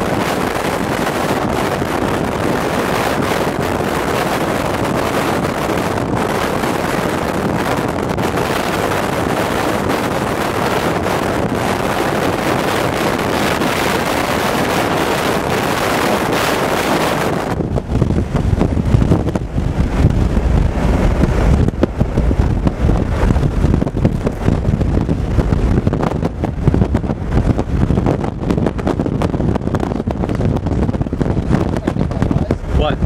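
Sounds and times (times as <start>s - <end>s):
low gusty rumble: 0.0s - 33.0s
wind buffeting microphone: 0.0s - 33.0s.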